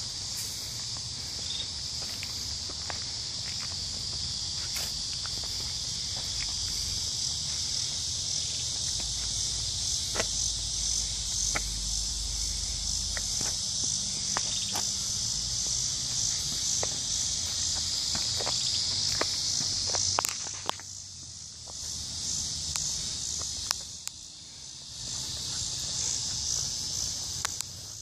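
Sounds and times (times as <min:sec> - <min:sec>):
insect chorus drone: 0:00.0 - 0:28.0.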